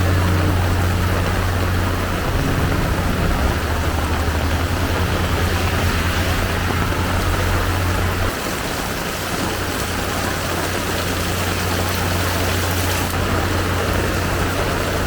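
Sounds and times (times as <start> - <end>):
heavy rain pouring: 0.0 - 15.0
vehicle engine hum: 0.0 - 15.0.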